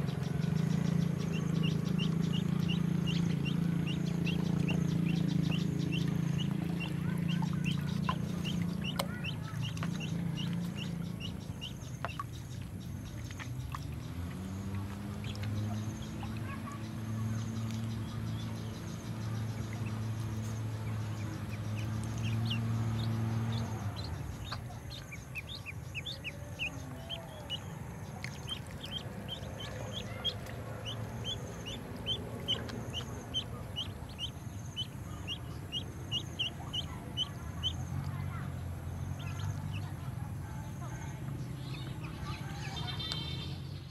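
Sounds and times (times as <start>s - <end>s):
ducklings peeping: 0.0s - 38.4s, 39.1s - 43.6s
low steady hum: 0.0s - 43.2s.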